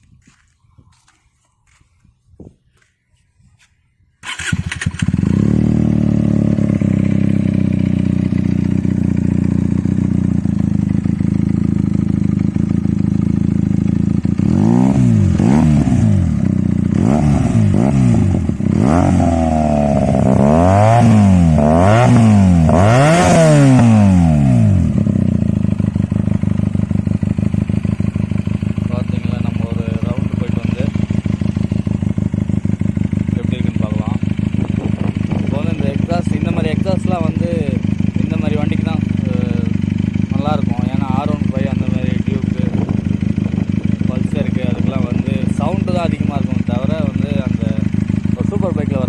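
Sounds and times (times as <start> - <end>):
motorcycle engine idling: 4.2 - 49.0
motorcycle engine revving: 4.2 - 49.0.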